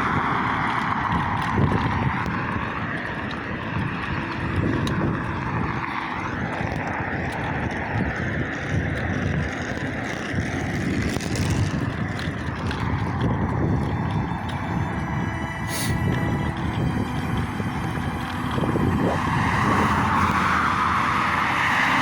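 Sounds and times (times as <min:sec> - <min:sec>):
bicycle road rumble: 0:00.0 - 0:22.0
wind on microphone: 0:00.0 - 0:22.0.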